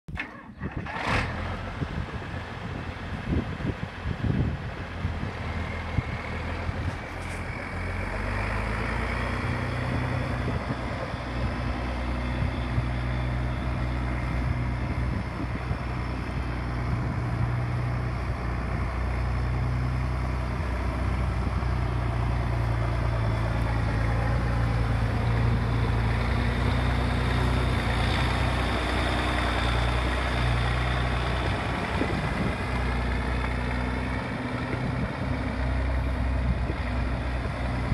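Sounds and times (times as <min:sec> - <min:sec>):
diesel tractor engine running: 0:00.1 - 0:37.9.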